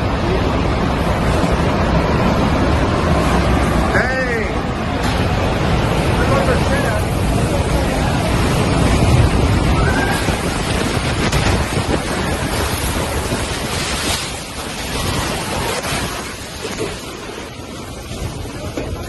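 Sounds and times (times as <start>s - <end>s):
storm wind gusting: 0.0s - 19.0s
wind buffeting the microphone: 0.0s - 19.0s.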